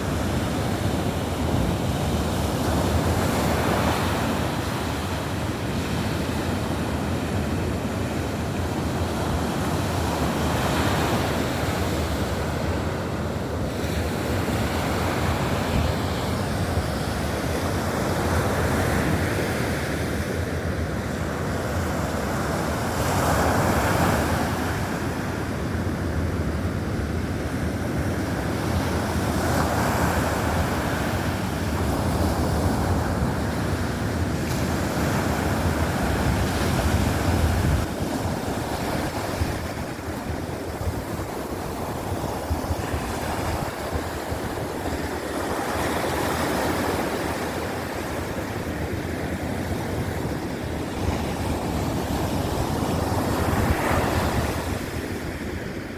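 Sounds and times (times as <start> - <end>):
wind rumbling on microphone: 0.0 - 55.9.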